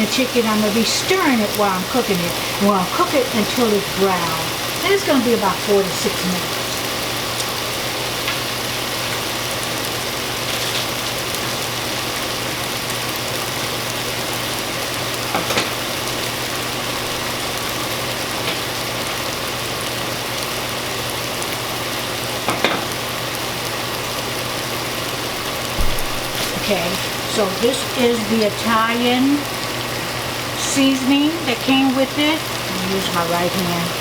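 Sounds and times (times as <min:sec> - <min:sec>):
chicken sizzling in a frying pan: 0:00.0 - 0:34.0.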